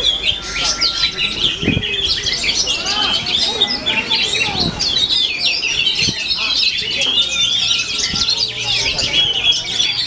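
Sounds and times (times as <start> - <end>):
bird singing whistles and trills: 0.0 - 10.0
songbirds chirping: 0.0 - 10.0.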